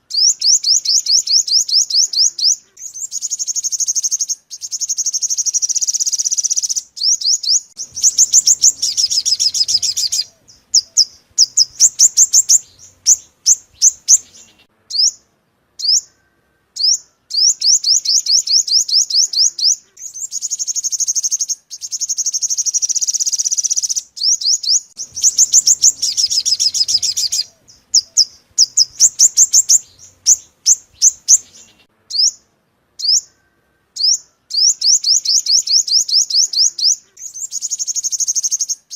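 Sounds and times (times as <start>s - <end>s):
bird trills: 0.0s - 38.9s
sharp downward-sweeping bird chirps: 0.0s - 38.9s.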